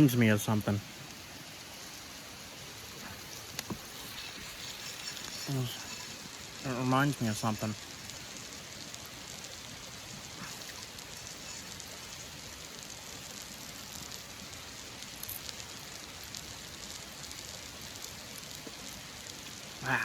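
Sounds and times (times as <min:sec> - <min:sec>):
campfire hissing: 0:00.0 - 0:20.0
fire crackling: 0:00.0 - 0:20.0.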